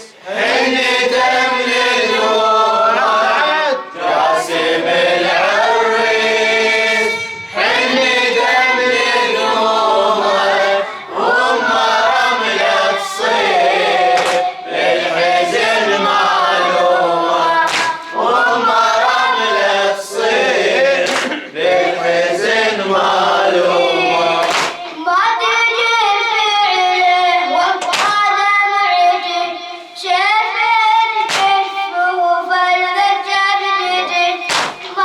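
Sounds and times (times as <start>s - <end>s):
voices chanting in unison: 0.0s - 28.2s, 30.0s - 35.0s.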